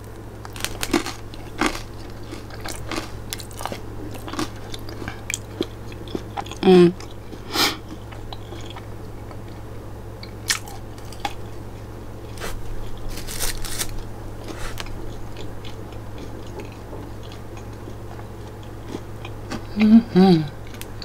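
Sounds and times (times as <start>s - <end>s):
chewing pizza: 0.4s - 21.0s.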